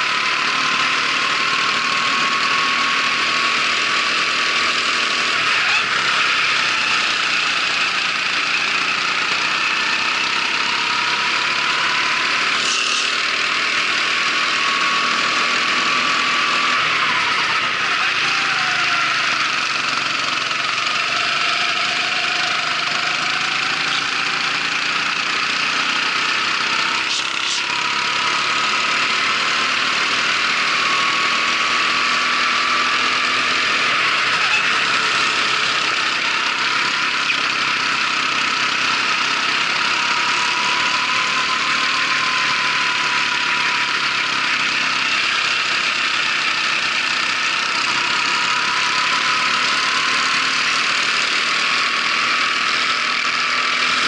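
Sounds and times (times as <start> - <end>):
kart engine running: 0.0 - 54.0.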